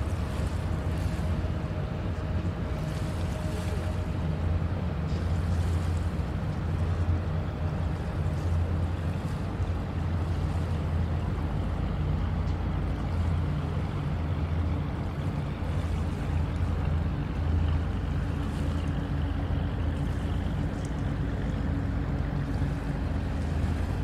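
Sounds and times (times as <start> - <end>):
engine droning: 0.0 - 24.0
hiss of wind or water: 0.0 - 24.0.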